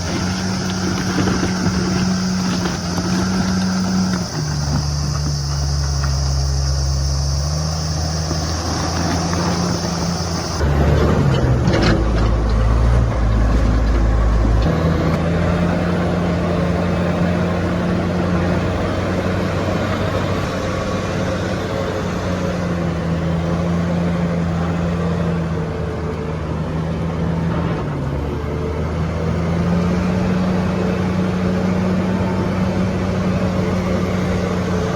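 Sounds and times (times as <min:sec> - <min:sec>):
bulldozer diesel engine: 0:00.0 - 0:34.9.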